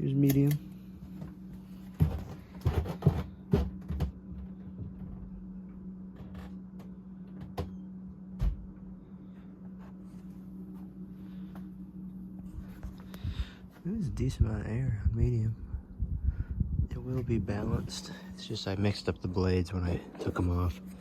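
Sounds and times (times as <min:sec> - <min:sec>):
ceiling fan motor humming: 0:00.0 - 0:21.0.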